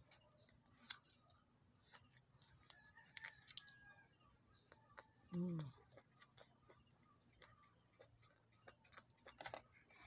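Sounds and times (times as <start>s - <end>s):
chewing rice and squid: 0.0s - 10.0s.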